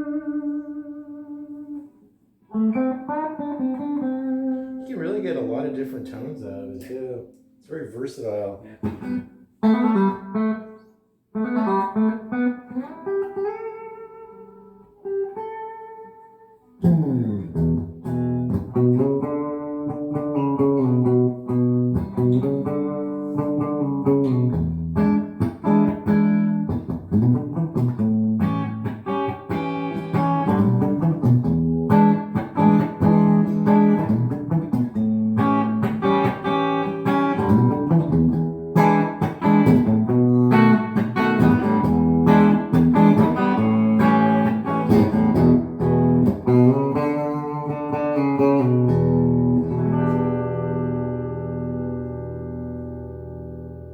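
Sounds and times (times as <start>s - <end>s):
electric guitar: 0.0s - 7.6s, 8.6s - 53.9s.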